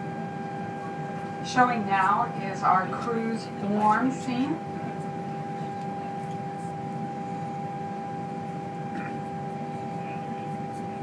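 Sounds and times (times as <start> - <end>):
aircraft cabin ventilation hum: 0.0 - 11.0.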